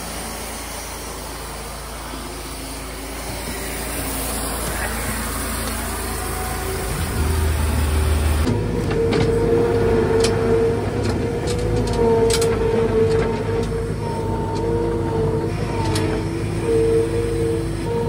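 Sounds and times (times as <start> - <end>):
sawmill running: 0.0 - 18.0.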